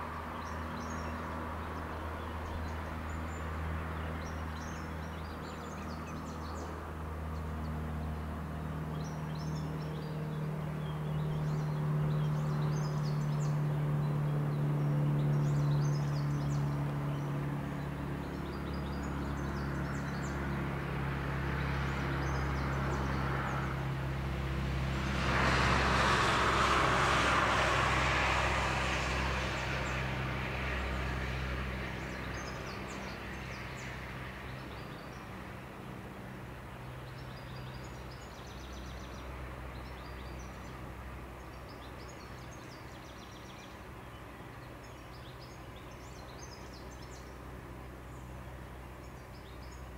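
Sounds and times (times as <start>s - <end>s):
vehicle passing: 0.0s - 49.9s.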